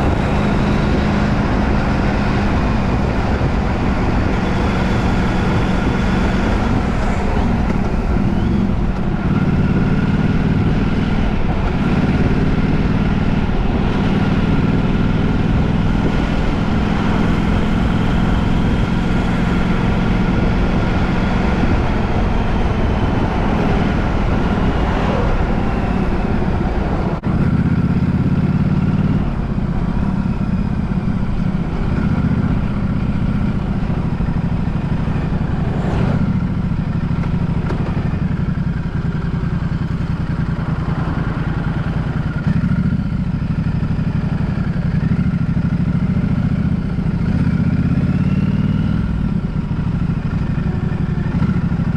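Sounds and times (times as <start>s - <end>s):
road noise: 0.0s - 51.9s
vehicle engine drone: 0.0s - 51.9s.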